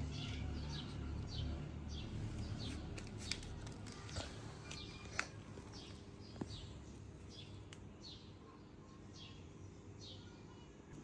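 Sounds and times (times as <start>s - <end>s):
small bird chirping: 0.0s - 3.4s, 4.1s - 10.8s.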